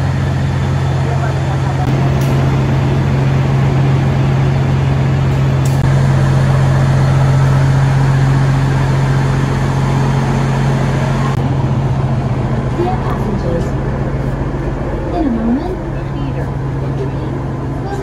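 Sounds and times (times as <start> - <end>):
low hum: 0.0 - 18.0
train rumbling: 0.0 - 18.0.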